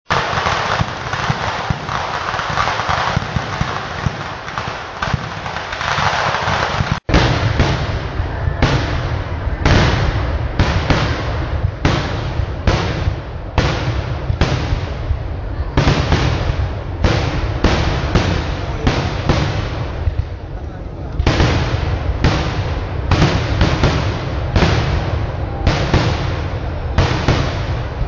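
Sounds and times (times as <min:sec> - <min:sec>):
heavy firework blasts: 0:00.0 - 0:28.0
firecracker bangs: 0:00.1 - 0:28.0.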